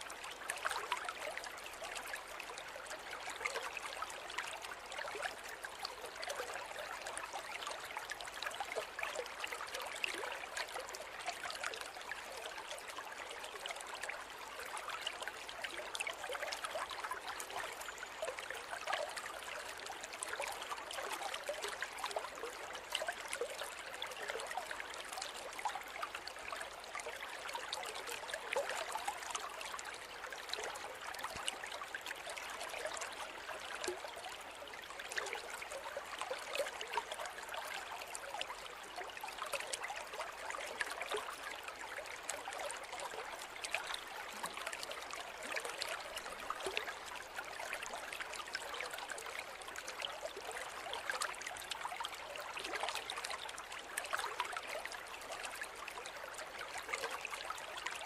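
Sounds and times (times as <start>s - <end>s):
stream flowing and babbling: 0.0s - 58.0s.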